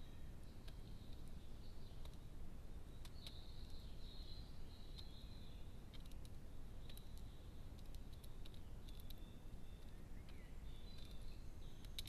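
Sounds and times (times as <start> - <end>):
distant birdsong: 0.0 - 12.0
steady low background noise: 0.0 - 12.0.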